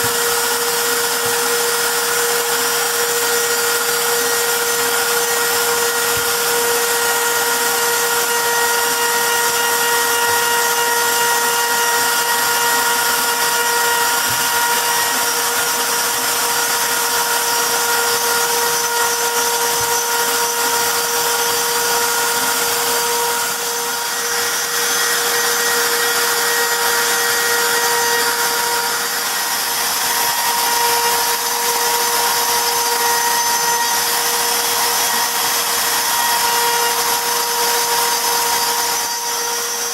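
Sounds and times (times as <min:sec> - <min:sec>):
bit rasping into wood: 0:00.0 - 0:39.9
router spindle whine: 0:00.0 - 0:39.9.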